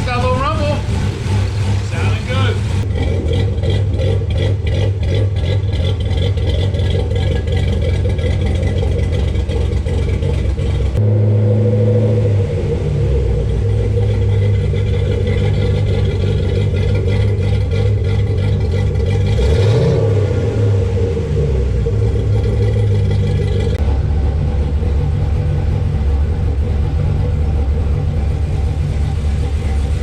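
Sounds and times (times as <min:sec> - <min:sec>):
car engine loping: 0:00.0 - 0:30.0
engine blipped: 0:00.0 - 0:30.0.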